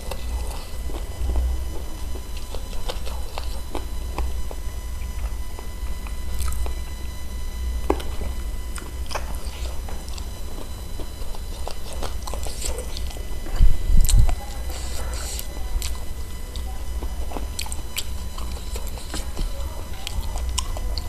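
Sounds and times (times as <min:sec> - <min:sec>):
chewing and biting: 0:00.0 - 0:07.0, 0:07.8 - 0:21.0
steady low hum: 0:00.0 - 0:21.0.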